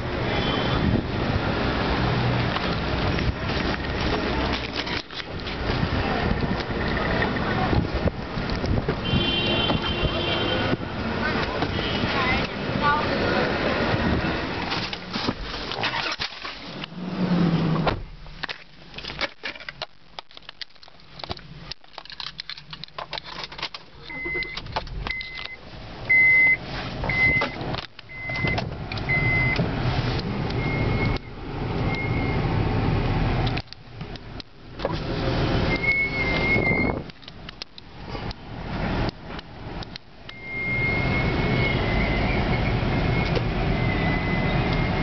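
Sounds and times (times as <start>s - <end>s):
car engine rumble: 0.0s - 45.0s.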